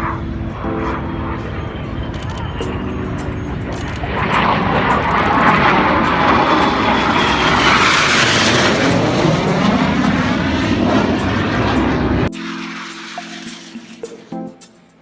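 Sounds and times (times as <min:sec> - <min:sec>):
aircraft flying past low: 0:00.0 - 0:14.4.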